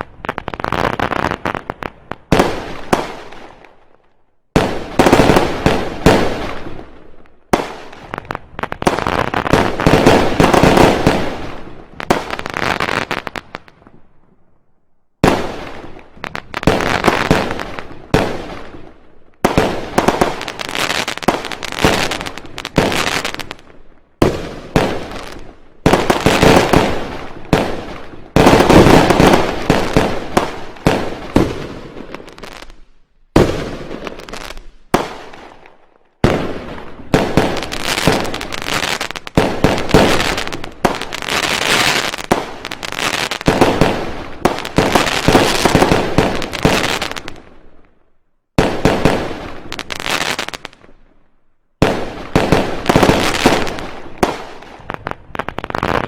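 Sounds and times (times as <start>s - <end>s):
fireworks bangs and cracks: 0.0s - 14.0s, 15.2s - 47.9s, 48.5s - 51.1s, 51.8s - 56.0s.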